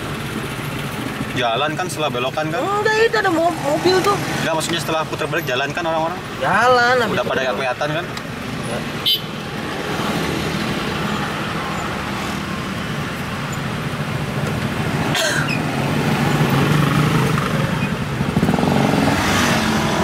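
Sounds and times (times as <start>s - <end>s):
car and motorcycle engines idling: 0.0s - 19.2s.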